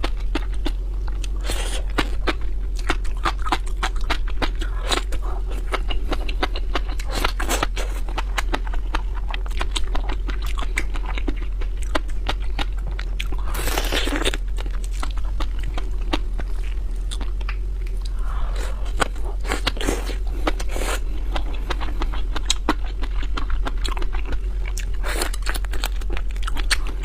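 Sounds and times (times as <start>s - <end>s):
chewing and crunching: 0.0s - 27.0s
low hum: 0.0s - 27.0s.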